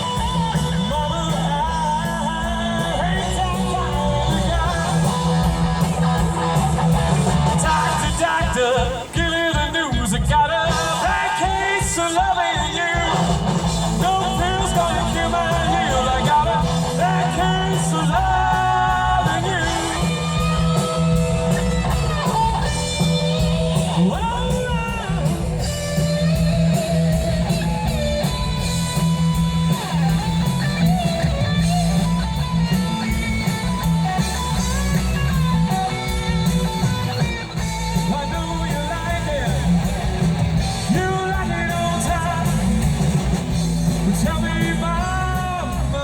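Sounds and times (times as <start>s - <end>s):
bass and drum beat: 0.0s - 46.0s
electric guitar lines: 0.0s - 46.0s.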